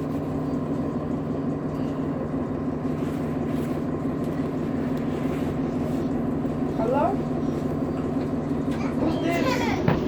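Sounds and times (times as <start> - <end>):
bus engine running: 0.0 - 10.0.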